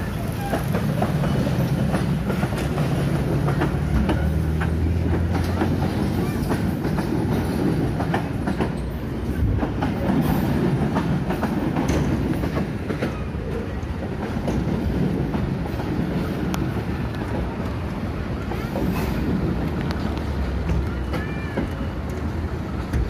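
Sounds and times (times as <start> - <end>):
train carriages rumbling past: 0.0 - 23.0
wheels clacking over rail joints: 0.0 - 23.0.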